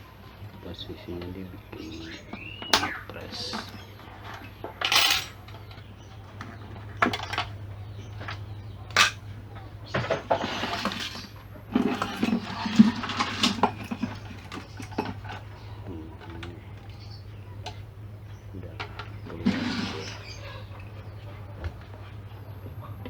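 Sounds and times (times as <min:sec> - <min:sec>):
tools and metal parts clinking: 0:01.2 - 0:23.0.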